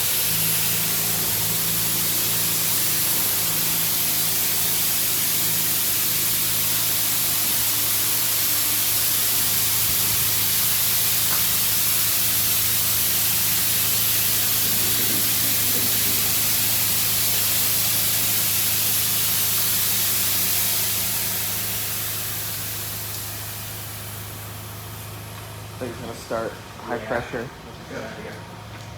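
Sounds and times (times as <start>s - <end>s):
car wash spray hissing: 0.0s - 27.4s
low pump hum: 0.0s - 28.9s.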